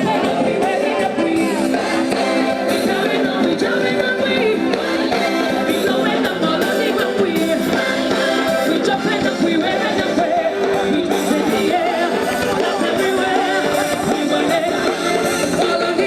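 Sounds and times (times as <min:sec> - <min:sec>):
live band music with singing: 0:00.0 - 0:16.0.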